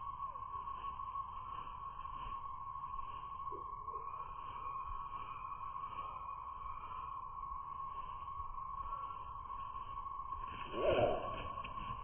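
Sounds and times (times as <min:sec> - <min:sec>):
steady high-pitched hum: 0:00.0 - 0:12.0.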